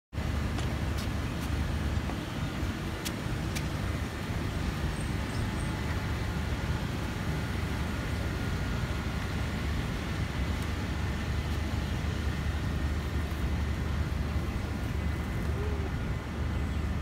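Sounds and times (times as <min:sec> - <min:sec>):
low outdoor rumble: 0:00.2 - 0:17.0.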